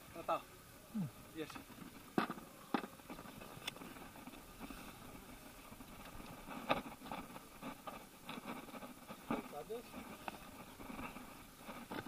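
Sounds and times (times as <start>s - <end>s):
faint water lapping: 0.0s - 12.0s.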